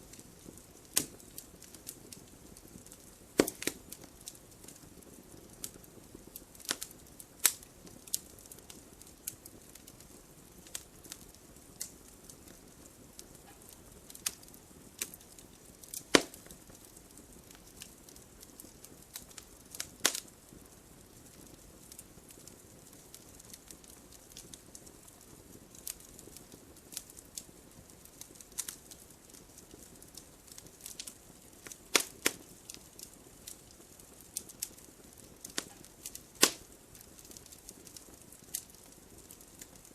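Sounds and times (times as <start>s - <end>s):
soft steady hiss: 0.0s - 39.9s
wood fire crackling and popping: 0.0s - 39.9s.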